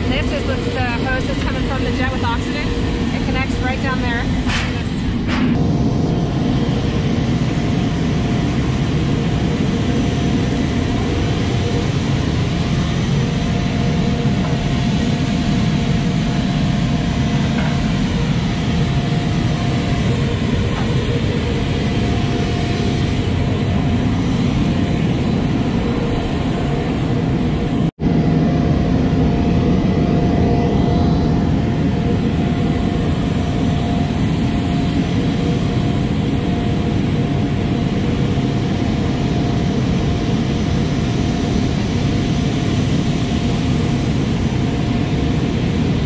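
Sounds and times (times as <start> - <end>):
jet engine roar: 0.0 - 46.0
thin steady whine: 0.0 - 46.0.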